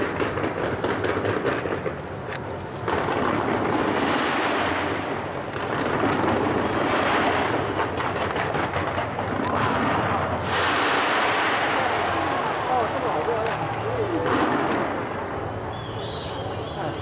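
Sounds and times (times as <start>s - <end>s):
fireworks bangs and crackling pops: 0.0s - 17.0s.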